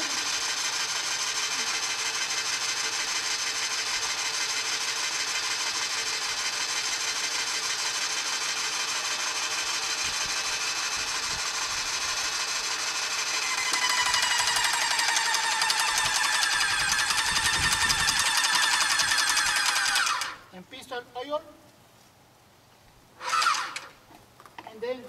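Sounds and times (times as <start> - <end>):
paint sprayer pump hissing: 0.0 - 20.5.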